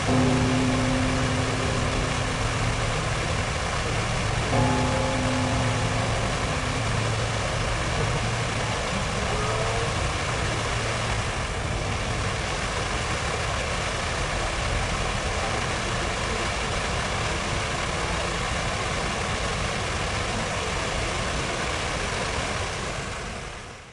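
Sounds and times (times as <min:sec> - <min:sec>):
low traffic rumble: 0:00.0 - 0:23.5
fountain water rushing: 0:00.0 - 0:23.9.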